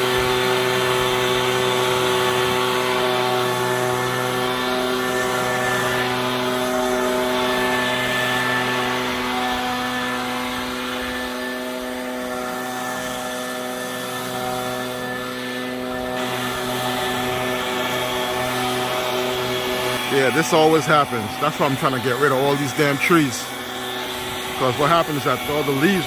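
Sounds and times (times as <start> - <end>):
leaf blower engine running: 0.0 - 26.0.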